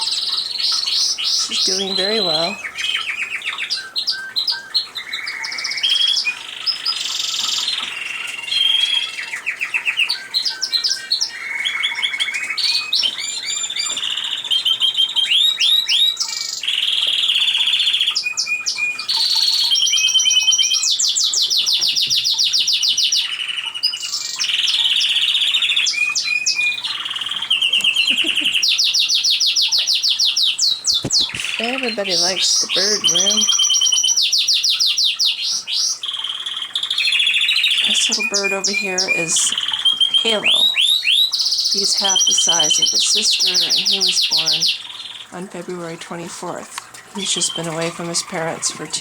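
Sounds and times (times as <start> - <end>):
canaries trilling: 0.0 - 49.0.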